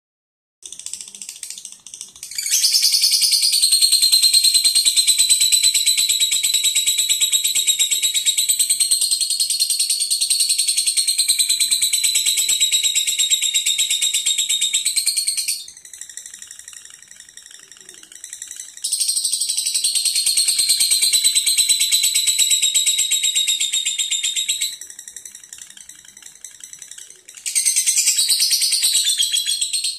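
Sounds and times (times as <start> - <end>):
lovebird chattering trill: 0.7 - 29.9.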